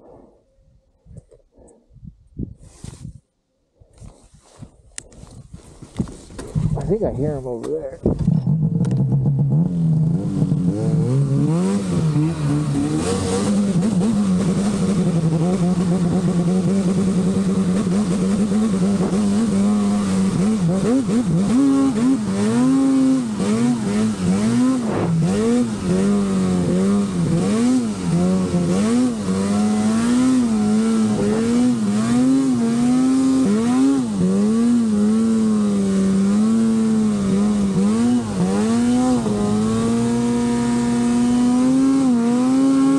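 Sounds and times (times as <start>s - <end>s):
snowmobile engine revving: 8.3s - 42.9s.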